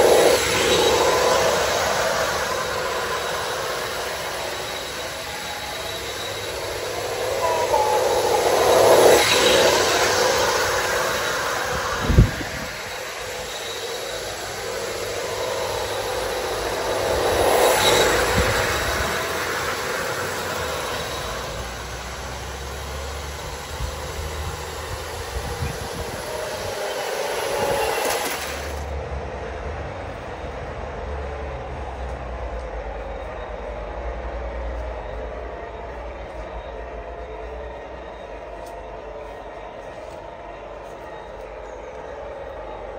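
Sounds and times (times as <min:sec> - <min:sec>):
model train diesel engine sound: 0:00.0 - 0:42.9
model train wheels on track: 0:00.0 - 0:42.9.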